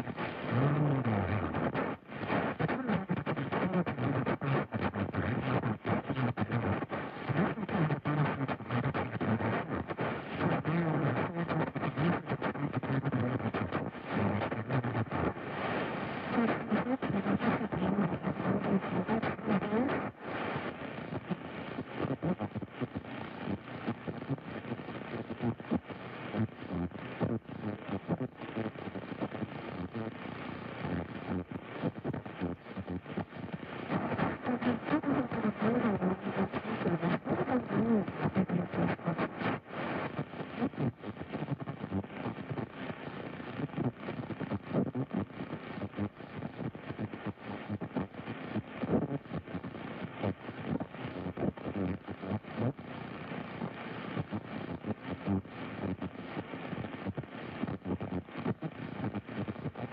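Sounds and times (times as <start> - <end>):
radio static hiss and crackle: 0.0 - 59.9.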